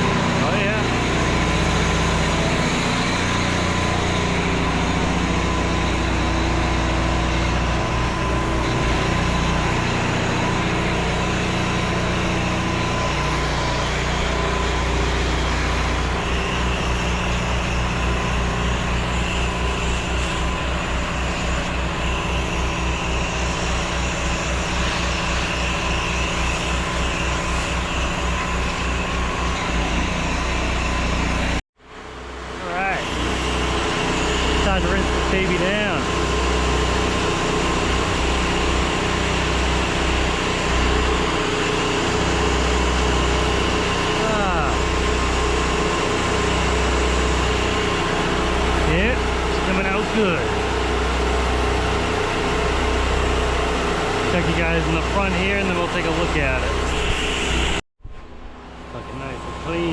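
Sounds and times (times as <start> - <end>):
pressure washer engine and pump: 0.0 - 59.9.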